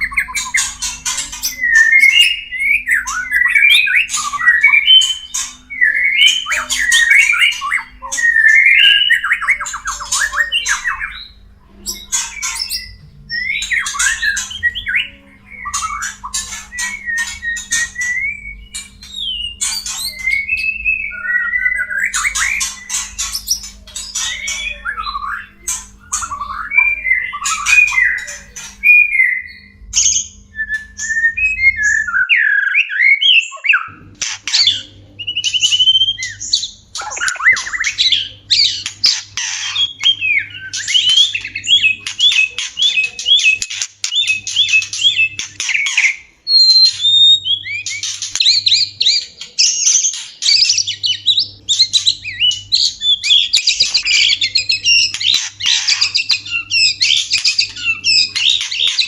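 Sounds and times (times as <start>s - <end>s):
bird harsh chattering and trilling: 0.0s - 59.0s
bird whistled phrases: 1.4s - 59.0s.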